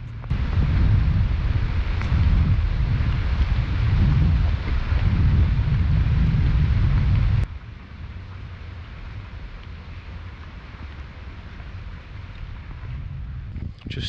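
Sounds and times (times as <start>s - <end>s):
outdoor wind hiss: 0.0s - 14.0s
wind buffeting microphone: 0.0s - 14.0s.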